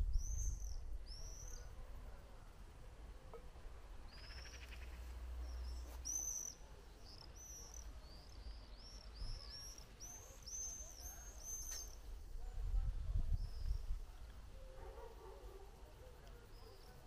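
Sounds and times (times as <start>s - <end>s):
songbird singing: 0.0s - 2.6s, 3.2s - 17.0s.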